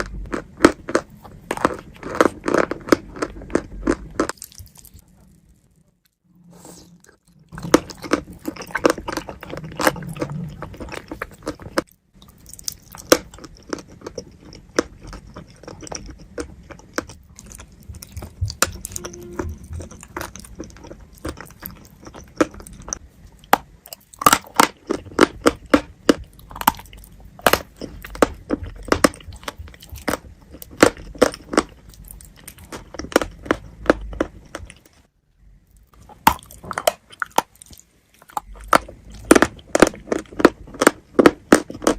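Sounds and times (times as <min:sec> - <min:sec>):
soft mushy chewing: 0:00.0 - 0:41.9.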